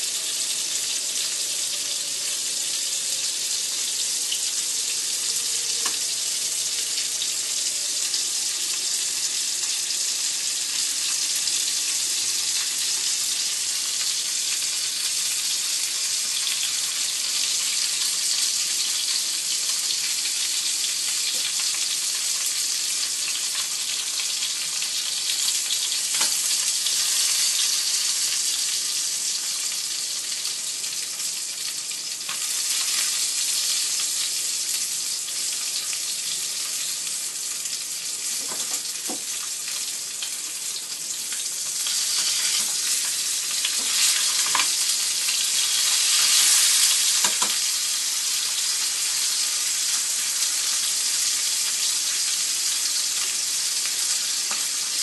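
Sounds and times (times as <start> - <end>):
abalone sizzling in hot oil: 0.0 - 55.0.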